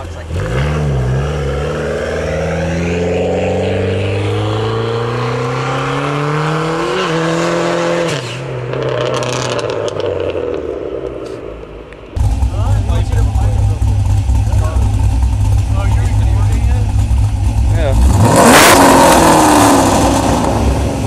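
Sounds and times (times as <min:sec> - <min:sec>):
car engine revving high: 0:00.0 - 0:10.7, 0:12.2 - 0:21.0.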